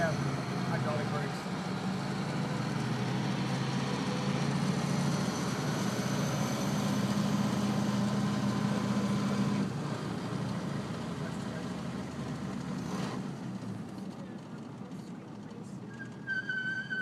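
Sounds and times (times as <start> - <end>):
car engine running: 0.0 - 16.0
road noise: 0.0 - 17.0.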